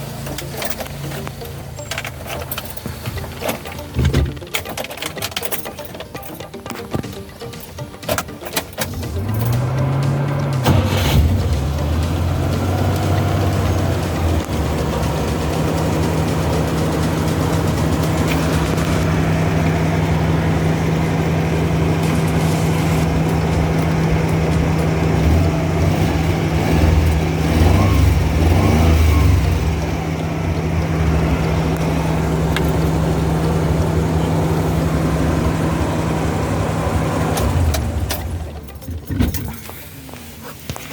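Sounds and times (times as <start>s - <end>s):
three-cylinder engine running: 0.0s - 40.9s.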